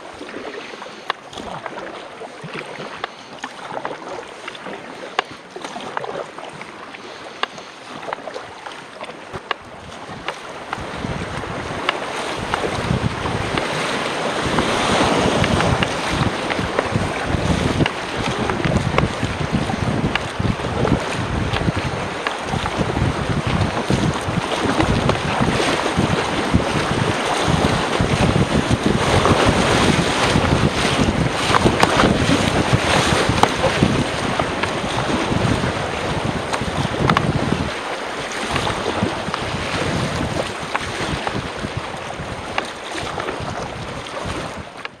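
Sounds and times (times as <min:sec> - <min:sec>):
paddle splashes: 0:00.0 - 0:45.0
river water rushing and splashing: 0:00.0 - 0:45.0
wind buffeting microphone: 0:08.0 - 0:45.0.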